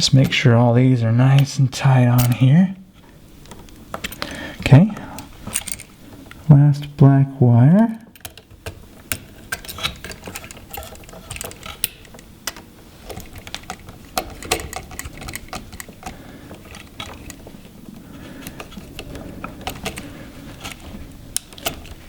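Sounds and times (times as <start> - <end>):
switch and wire handled: 2.1 - 7.0, 7.9 - 22.0.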